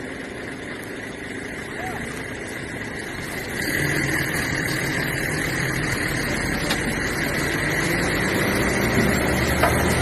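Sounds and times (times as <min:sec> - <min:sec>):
vehicle driving on road: 0:00.0 - 0:10.0.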